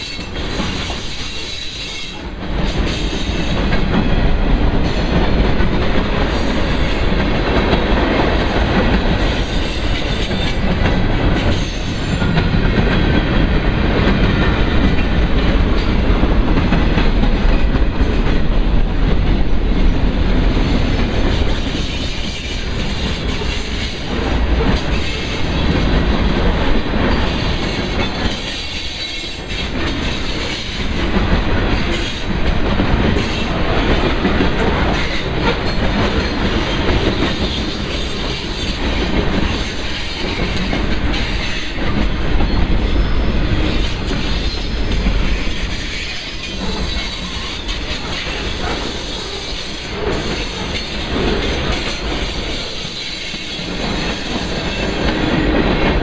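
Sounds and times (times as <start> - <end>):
freight train rolling on rails: 0.0 - 56.0.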